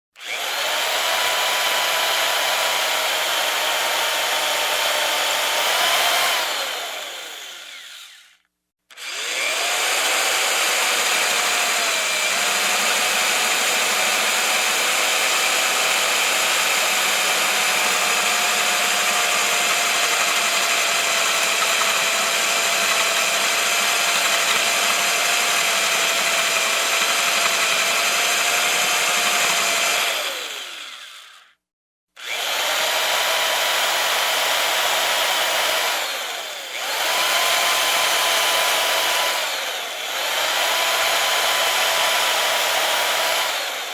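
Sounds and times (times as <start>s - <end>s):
electric drill whining: 0.2s - 31.6s, 32.2s - 43.9s.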